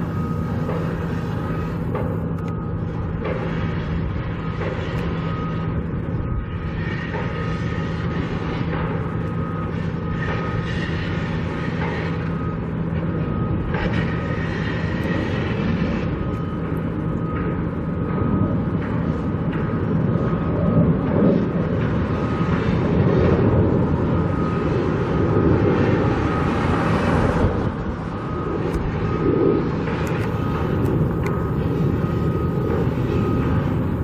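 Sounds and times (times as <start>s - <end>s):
mechanical rumble with low hum: 0.0s - 34.0s.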